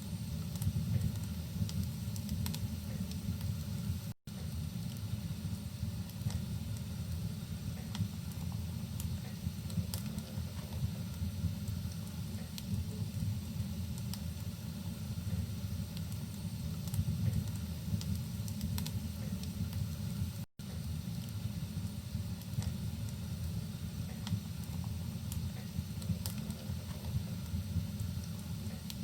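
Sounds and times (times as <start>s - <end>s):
log fire crackling: 0.0s - 29.0s.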